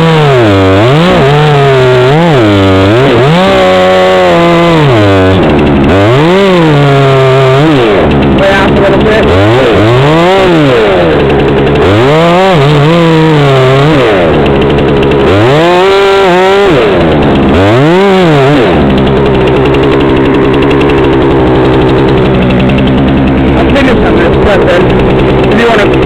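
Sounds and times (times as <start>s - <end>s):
chainsaw revving: 0.0s - 26.0s
low engine drone: 4.2s - 26.0s.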